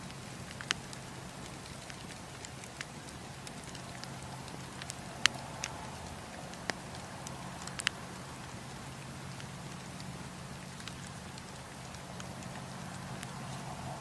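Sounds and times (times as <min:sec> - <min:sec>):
burning wood popping: 0:00.0 - 0:14.0
campfire crackling: 0:00.0 - 0:14.0.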